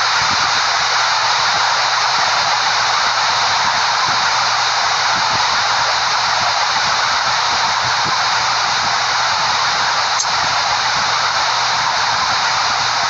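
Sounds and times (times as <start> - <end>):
steady loud hiss: 0.0 - 13.0.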